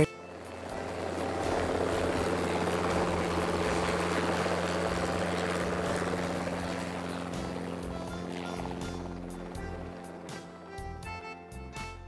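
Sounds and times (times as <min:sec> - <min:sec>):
helicopter flying: 0:00.0 - 0:12.0.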